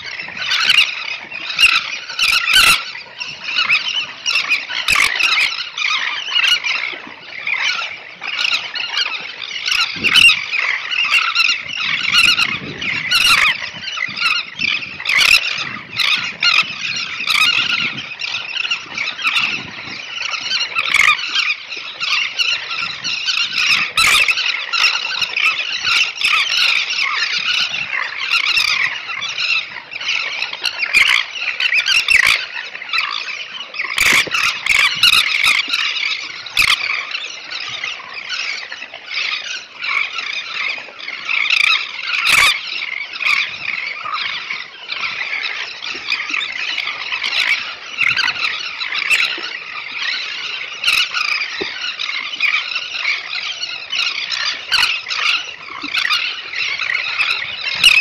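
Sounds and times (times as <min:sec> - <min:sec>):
terns calling: 0:00.0 - 0:58.0.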